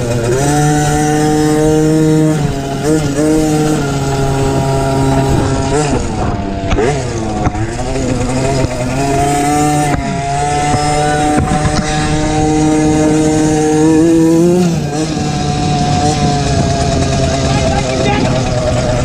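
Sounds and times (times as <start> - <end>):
small motorbike engine revving: 0.0 - 19.0.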